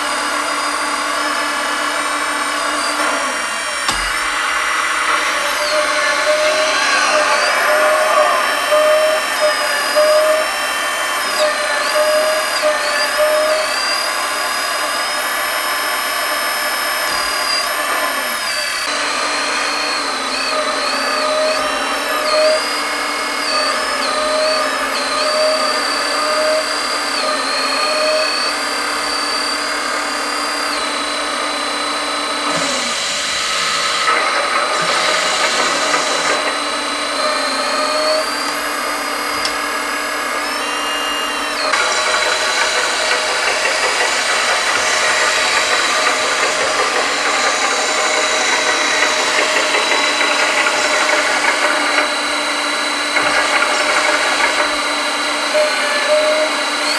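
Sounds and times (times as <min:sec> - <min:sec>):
hydraulic pump whining: 0:00.0 - 0:56.9
simulated excavator engine: 0:00.0 - 0:56.9.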